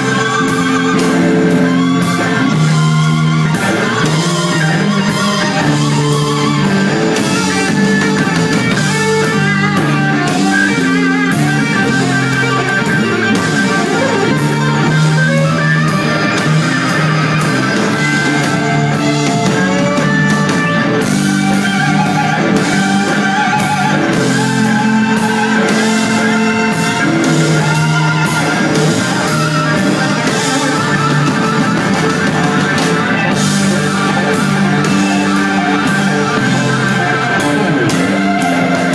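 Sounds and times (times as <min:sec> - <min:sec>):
blues-rock band playing: 0:00.0 - 0:38.9
electric guitar with vibrato: 0:00.0 - 0:38.9.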